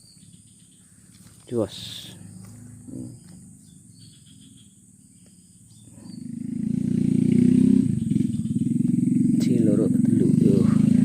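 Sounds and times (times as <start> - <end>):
crickets chirping: 0.0 - 11.0
motorcycle approaching: 0.0 - 11.0.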